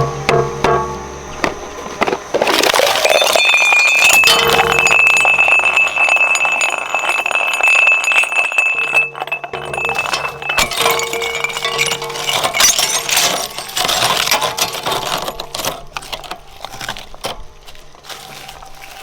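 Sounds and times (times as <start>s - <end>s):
shredder crushing brittle objects: 1.8s - 8.6s, 9.5s - 19.0s.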